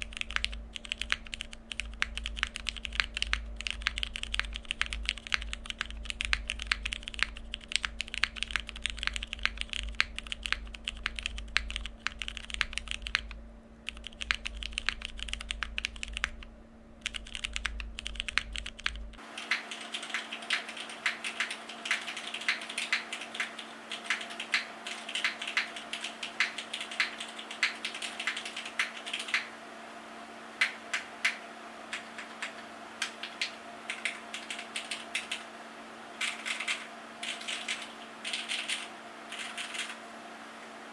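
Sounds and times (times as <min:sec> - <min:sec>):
mechanical keyboard typing: 0:00.0 - 0:29.5, 0:30.6 - 0:35.5, 0:36.2 - 0:40.0.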